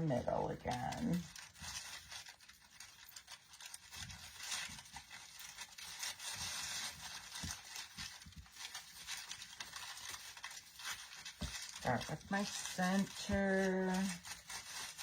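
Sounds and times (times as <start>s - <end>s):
artificial foliage rustling: 0.0s - 15.0s.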